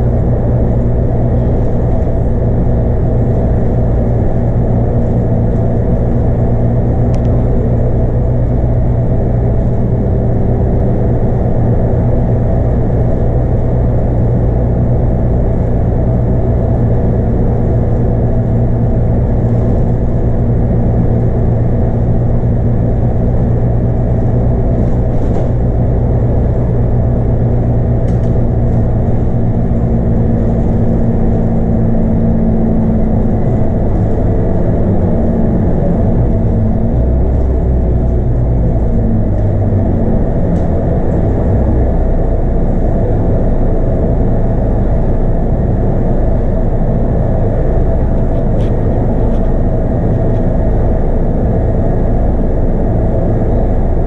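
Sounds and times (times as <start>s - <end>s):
bus diesel engine droning: 0.0s - 54.0s
road noise: 0.0s - 54.0s.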